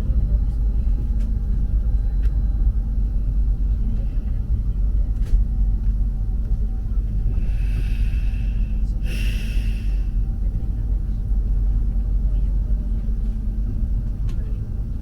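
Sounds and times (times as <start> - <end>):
train rumble inside passenger car: 0.0 - 15.0.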